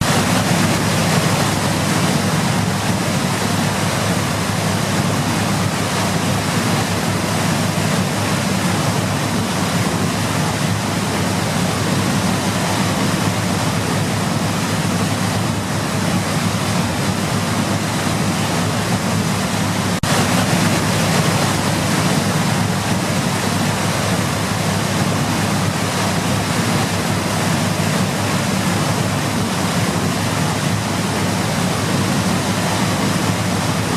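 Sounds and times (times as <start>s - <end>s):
rushing water roar: 0.0s - 33.9s.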